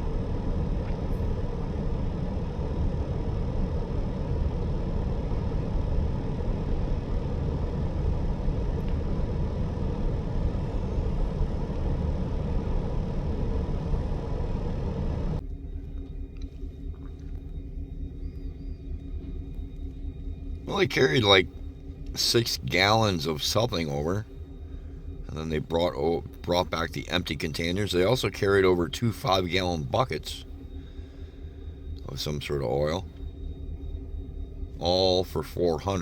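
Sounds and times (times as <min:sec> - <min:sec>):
diesel locomotives idling: 0:00.0 - 0:36.0.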